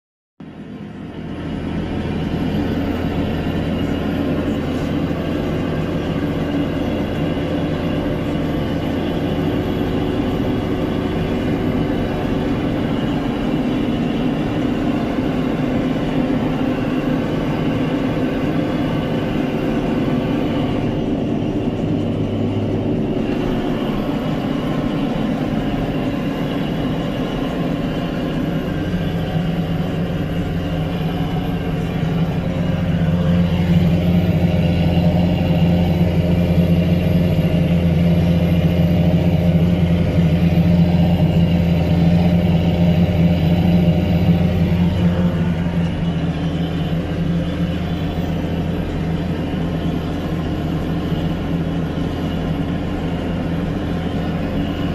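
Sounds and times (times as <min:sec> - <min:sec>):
tractor diesel engine under load: 0:00.4 - 0:54.9.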